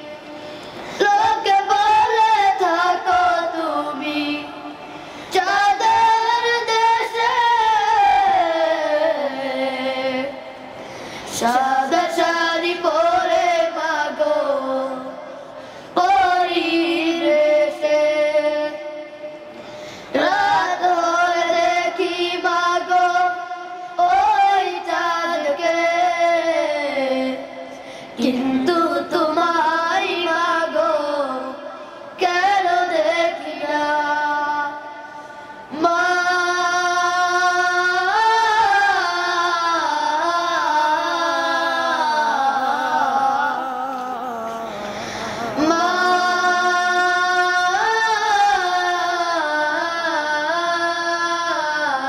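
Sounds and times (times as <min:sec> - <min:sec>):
boys singing: 0:01.0 - 0:04.7, 0:05.3 - 0:10.5, 0:11.3 - 0:15.2, 0:16.0 - 0:19.1, 0:20.2 - 0:27.5, 0:28.2 - 0:35.0, 0:35.7 - 0:52.0.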